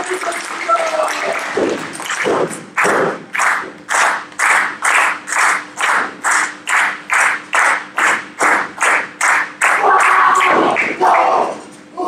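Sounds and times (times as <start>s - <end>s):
crowd clapping in unison: 0.0s - 11.5s.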